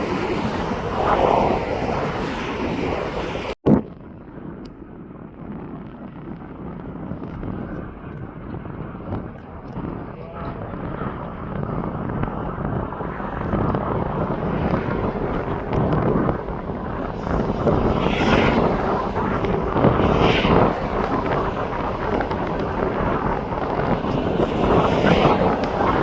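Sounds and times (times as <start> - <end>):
aircraft engine rushing: 0.0 - 3.6, 7.2 - 26.0
wind buffeting microphone: 0.0 - 26.0.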